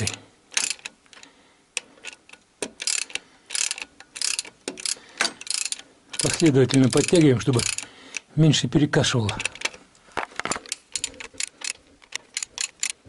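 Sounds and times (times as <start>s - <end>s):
hand ratchet clicking: 0.0s - 8.3s, 9.2s - 9.8s, 10.4s - 13.0s.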